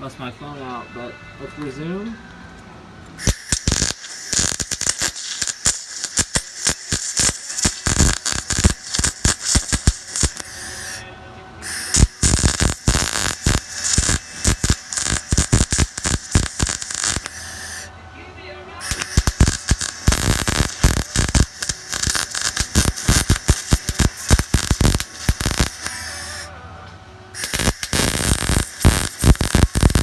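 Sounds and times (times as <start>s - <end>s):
welder arc crackling: 3.2s - 11.0s, 11.6s - 17.9s, 18.8s - 26.5s, 27.4s - 30.0s.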